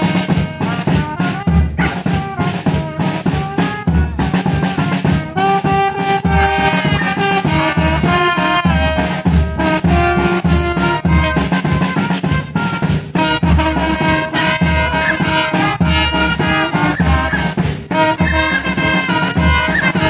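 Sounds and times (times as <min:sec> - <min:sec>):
bass drum beat: 0:00.0 - 0:20.0
trombones and trumpets playing: 0:00.0 - 0:20.0.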